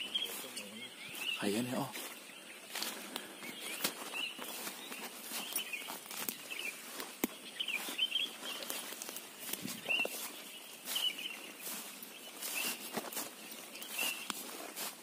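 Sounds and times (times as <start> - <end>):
footsteps rustling through undergrowth: 0.0 - 15.0
small birds chirping: 0.0 - 15.0.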